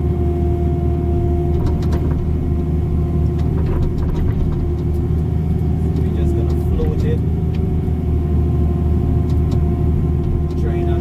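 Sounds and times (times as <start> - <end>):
diesel engine running under load: 0.0 - 11.0
steady mechanical whine: 0.0 - 11.0.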